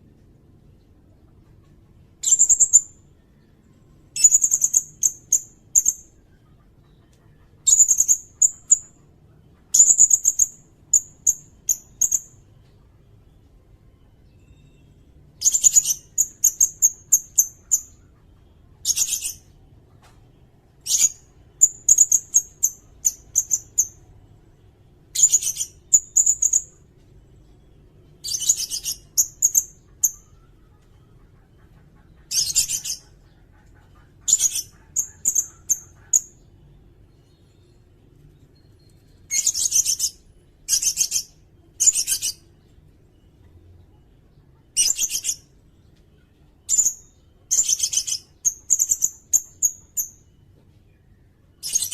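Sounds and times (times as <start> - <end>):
bird chirping and trilling: 0.9 - 12.5, 14.0 - 19.7, 20.6 - 24.3, 25.0 - 50.5, 51.2 - 51.9.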